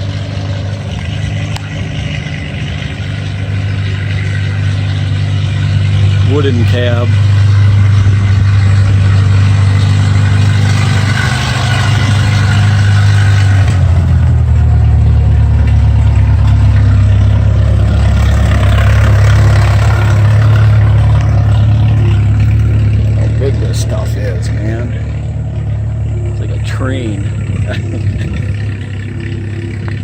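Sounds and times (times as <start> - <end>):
large engine droning: 0.0 - 30.0.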